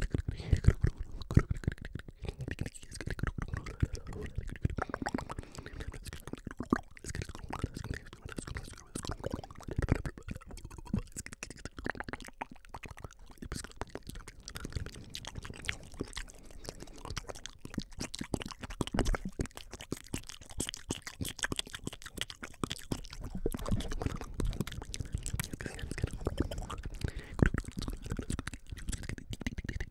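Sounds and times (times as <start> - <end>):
wet mouth clicks and smacks: 0.0 - 29.9.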